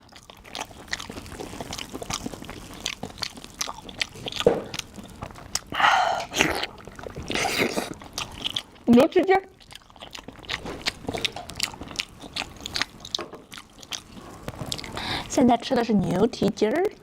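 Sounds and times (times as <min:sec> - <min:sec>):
person chewing wet mouth clicks: 0:00.0 - 0:15.3
loud noisy chewing sounds: 0:00.0 - 0:17.0.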